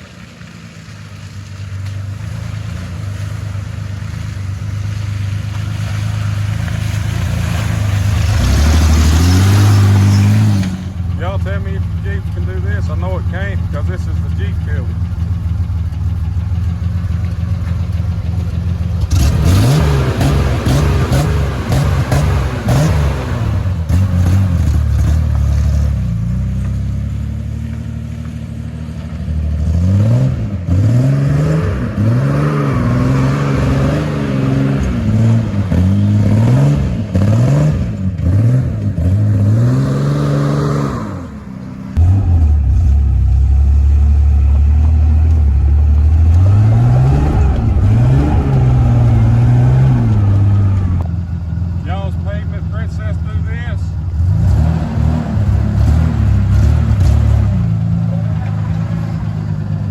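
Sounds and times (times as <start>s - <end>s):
engine revving: 2.3s - 59.9s.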